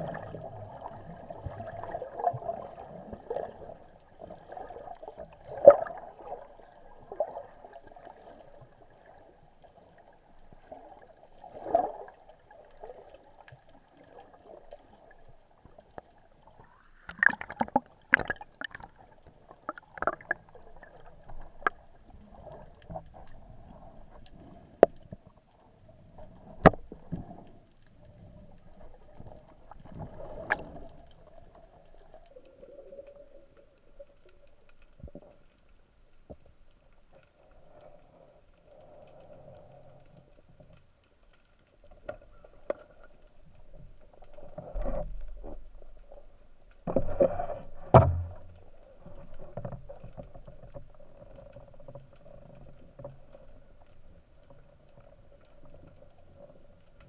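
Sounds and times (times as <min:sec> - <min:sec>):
muffled underwater hiss: 0:00.0 - 0:41.1, 0:41.8 - 0:57.0.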